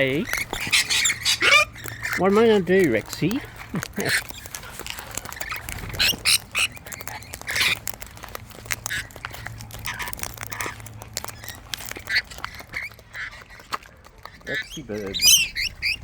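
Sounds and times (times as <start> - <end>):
cockatoos calling: 0.0 - 16.0
sharp clicks: 0.0 - 16.0.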